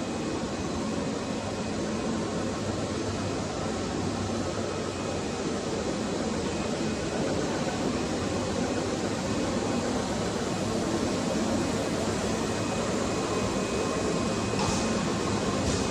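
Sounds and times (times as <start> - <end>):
machine hum and hiss: 0.0 - 15.9.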